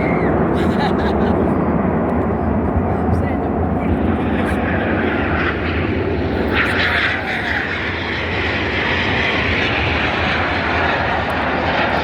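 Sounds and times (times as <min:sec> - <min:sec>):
airplane flying overhead: 0:00.0 - 0:12.0.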